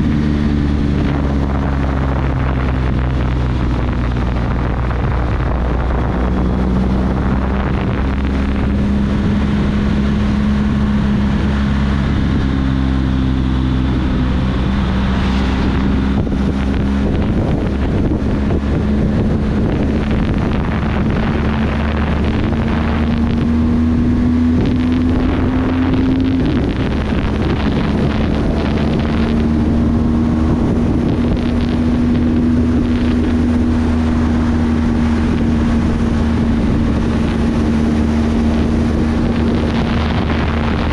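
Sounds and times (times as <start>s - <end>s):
motorcycle engine cruising: 0.0s - 40.9s
wind over microphone: 0.0s - 40.9s.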